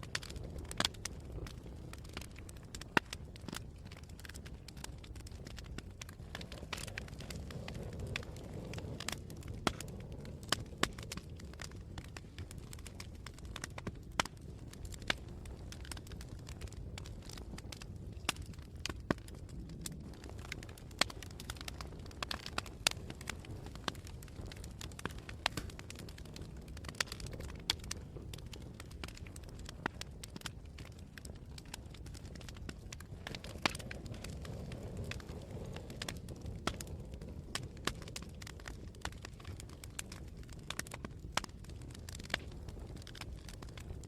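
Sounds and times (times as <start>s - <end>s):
campfire crackling and popping: 0.0s - 44.0s
low rumble of flame: 0.0s - 44.0s.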